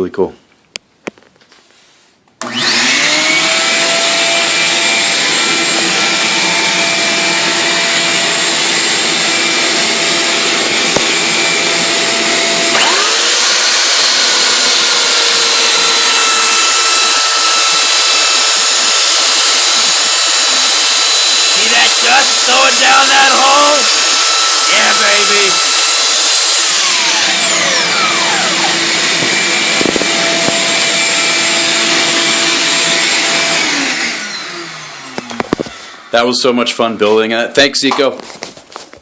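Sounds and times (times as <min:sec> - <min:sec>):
vacuum whining: 0:02.4 - 0:37.3.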